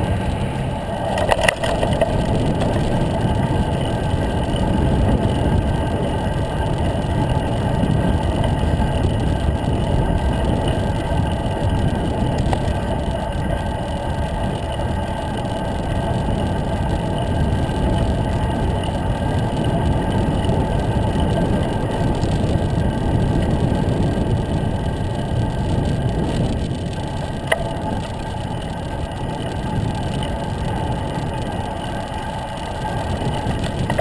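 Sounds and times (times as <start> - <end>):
wind rumbling on microphone: 0.0 - 34.0.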